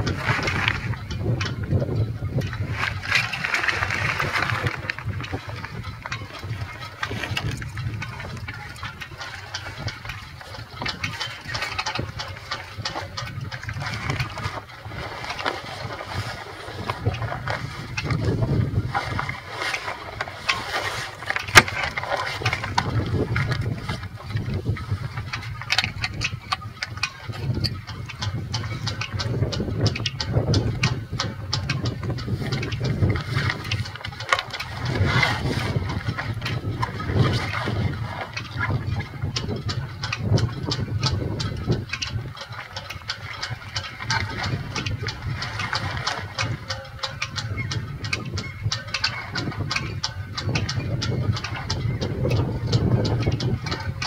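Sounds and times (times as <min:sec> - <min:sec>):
wind buffeting microphone: 0:00.0 - 0:54.0
clicks and knocks: 0:02.4 - 0:54.0.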